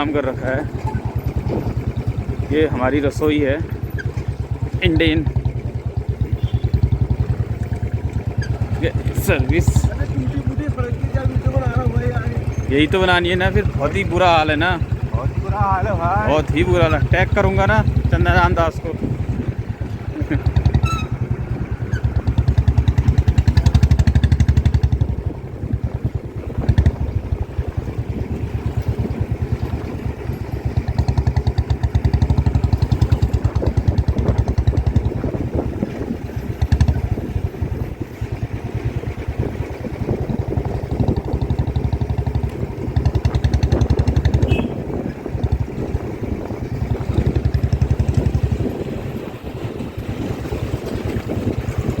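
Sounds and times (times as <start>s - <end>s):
motorcycle engine: 0.0s - 52.0s.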